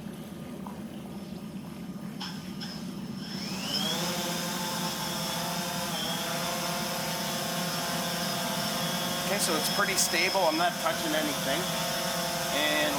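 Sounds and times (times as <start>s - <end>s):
drone propeller buzz: 2.2s - 12.9s.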